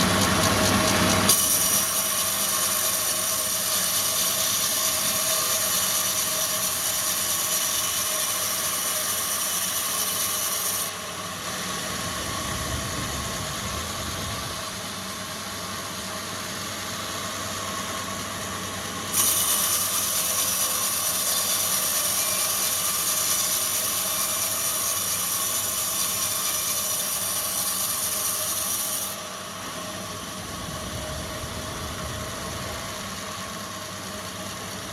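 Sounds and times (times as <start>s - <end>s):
factory machinery running: 0.0s - 34.9s.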